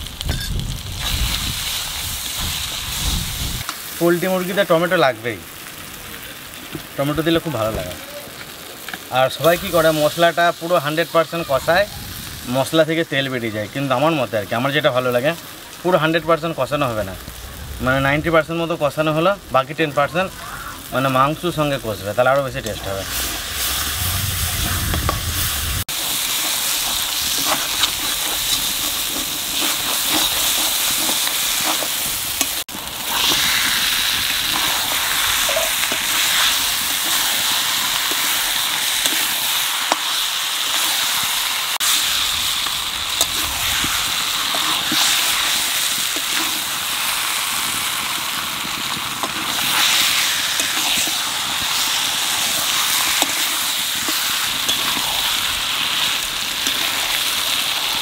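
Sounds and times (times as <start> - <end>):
chicken sizzling in oil: 0.0 - 58.0.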